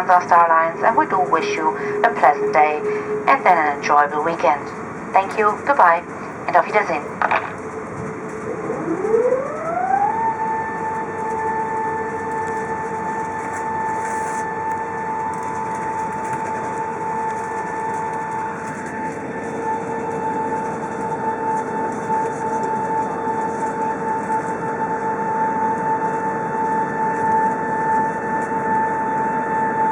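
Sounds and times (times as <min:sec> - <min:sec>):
aircraft cabin whine: 0:00.0 - 0:29.9.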